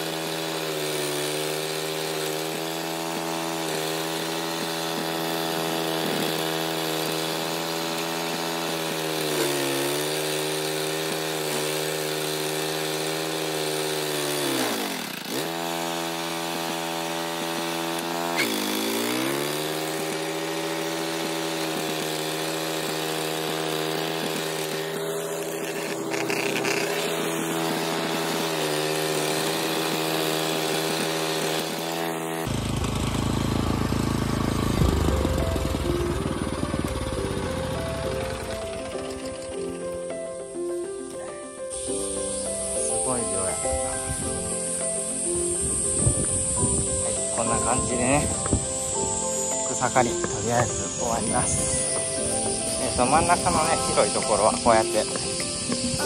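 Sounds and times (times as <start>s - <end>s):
mower engine cutting grass: 0.0s - 56.0s.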